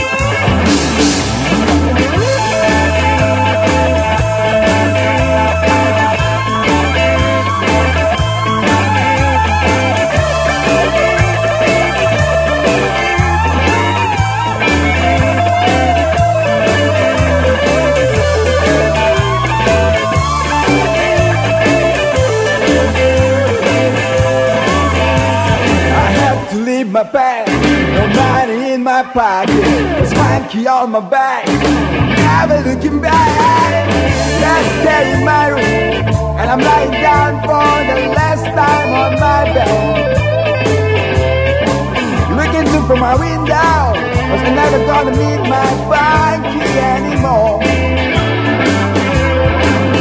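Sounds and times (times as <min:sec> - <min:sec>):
rock music with guitar and drums: 0:00.0 - 0:50.0.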